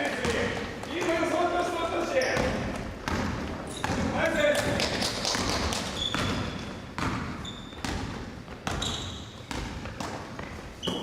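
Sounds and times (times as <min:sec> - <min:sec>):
ball bouncing on gym floor: 0:00.0 - 0:01.6, 0:02.2 - 0:11.0
sneakers squeaking on court: 0:00.1 - 0:04.5, 0:05.4 - 0:11.0.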